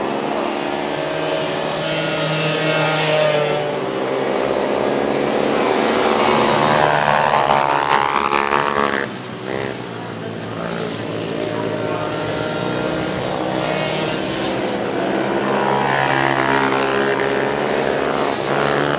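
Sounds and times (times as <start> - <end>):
quad engines revving past: 0.0 - 18.9.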